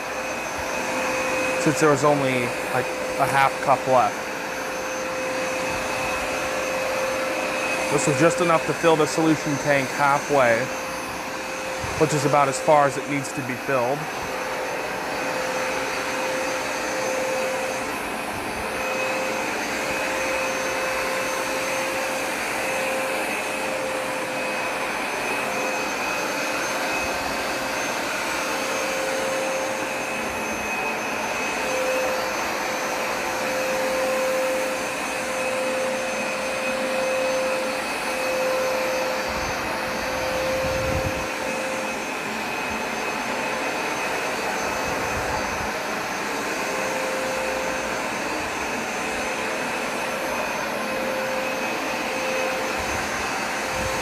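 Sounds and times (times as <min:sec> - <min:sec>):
carpet cleaner motor whine: 0:00.0 - 0:54.0.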